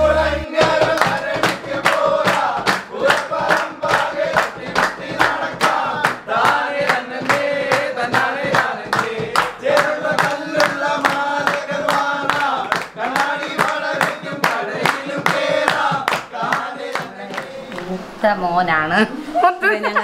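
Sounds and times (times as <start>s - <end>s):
men singing in unison: 0.0s - 17.8s
hands clapping: 0.5s - 17.9s.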